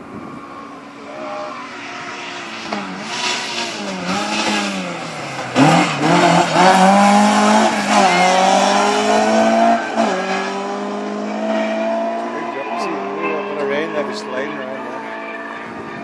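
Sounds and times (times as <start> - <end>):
rally car engine revving: 1.0 - 16.0.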